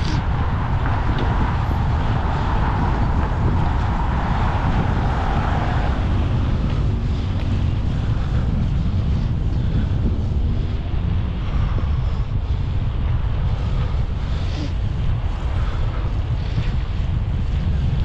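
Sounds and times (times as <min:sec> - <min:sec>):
road traffic passing: 0:00.0 - 0:18.0
vehicle hum: 0:00.0 - 0:18.0
wind buffeting microphone: 0:00.0 - 0:18.0.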